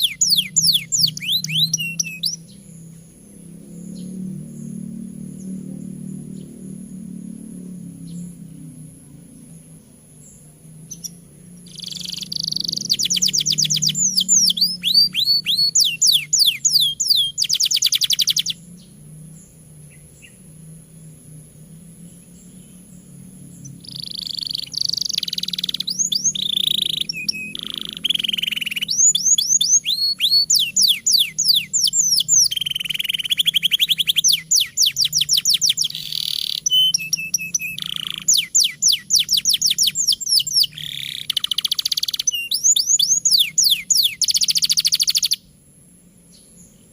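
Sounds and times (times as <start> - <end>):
canary singing trills: 0.0 - 45.6
low steady hum: 0.0 - 46.9.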